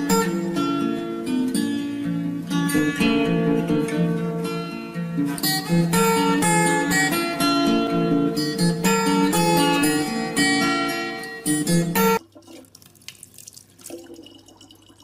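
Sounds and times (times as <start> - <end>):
plucked acoustic guitar melody: 0.0 - 12.7.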